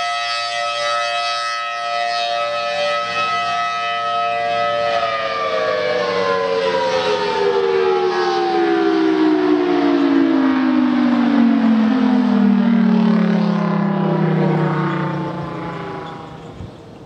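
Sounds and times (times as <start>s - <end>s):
warning siren winding down: 0.0s - 17.0s.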